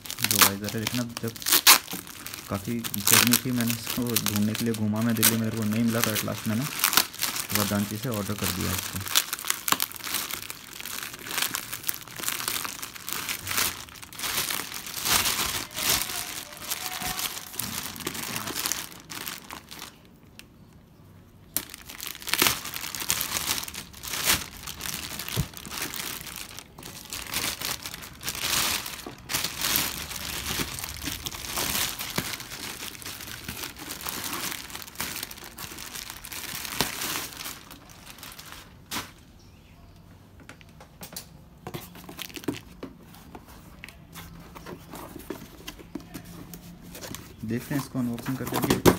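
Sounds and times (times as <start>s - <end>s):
plastic bag crinkling and tearing: 0.0s - 20.4s, 21.4s - 39.3s, 41.8s - 42.9s, 44.0s - 48.9s.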